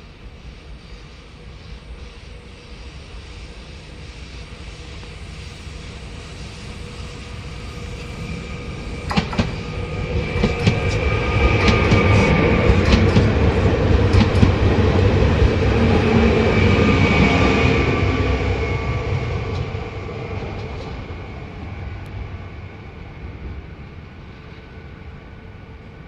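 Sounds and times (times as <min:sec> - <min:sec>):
high ring from train wheels: 0:00.0 - 0:22.9
train rumble: 0:00.0 - 0:26.0.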